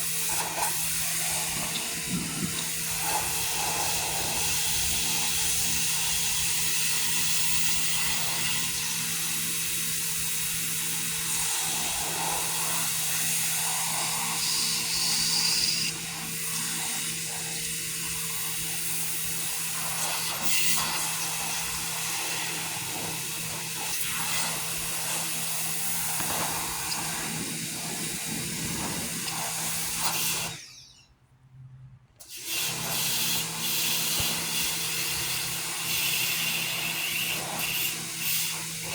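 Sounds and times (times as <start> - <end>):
pressure washer water jet hissing: 0.0 - 30.7, 32.2 - 38.9
pressure washer motor humming: 0.0 - 31.0, 32.2 - 38.9.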